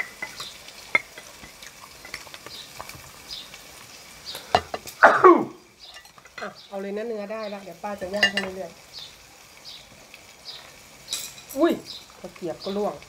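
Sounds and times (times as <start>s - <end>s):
beef sizzling on a grill: 0.0s - 13.0s.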